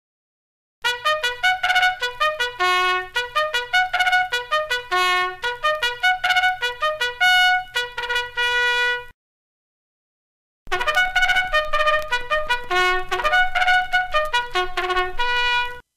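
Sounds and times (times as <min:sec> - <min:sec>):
bugle call: 0:00.8 - 0:09.1, 0:10.7 - 0:15.8.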